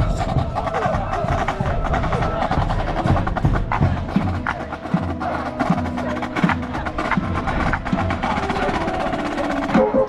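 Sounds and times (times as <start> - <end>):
crisp percussion strokes: 0.0 - 10.0.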